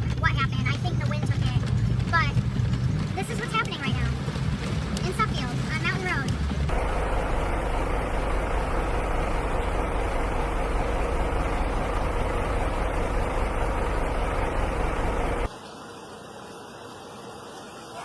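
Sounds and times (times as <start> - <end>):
vehicle running: 0.0 - 15.5.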